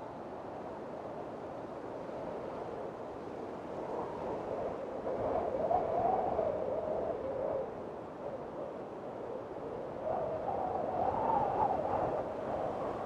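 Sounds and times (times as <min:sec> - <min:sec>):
strong storm wind: 0:00.0 - 0:13.0.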